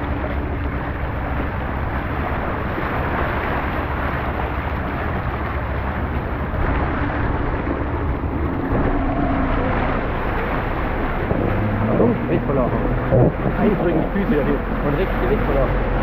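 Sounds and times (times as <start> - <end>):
boat motor: 0.0 - 16.0
water: 0.0 - 16.0
wind buffeting microphone: 0.0 - 16.0.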